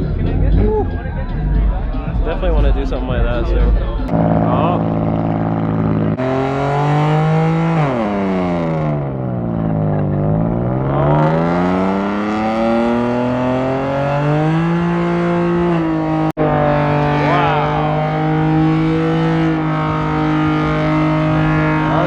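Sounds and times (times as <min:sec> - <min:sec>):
car engine revving: 0:04.0 - 0:22.0.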